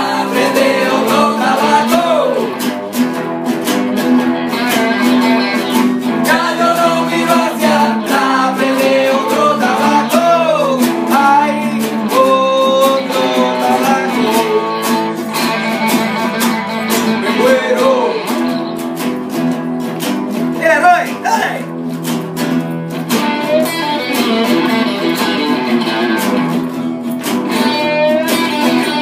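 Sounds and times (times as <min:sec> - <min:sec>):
acoustic guitars strummed and picked: 0:00.0 - 0:29.0
electric guitar melody with bends: 0:00.0 - 0:29.0.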